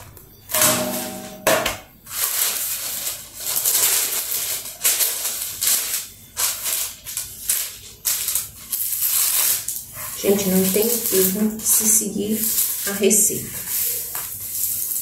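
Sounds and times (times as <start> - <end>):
baking paper rustling: 2.0 - 15.0.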